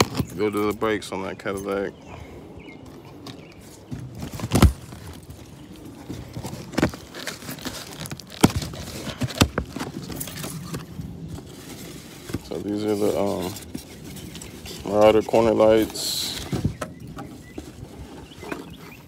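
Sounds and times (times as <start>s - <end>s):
cardboard packaging rustling: 3.6s - 19.0s.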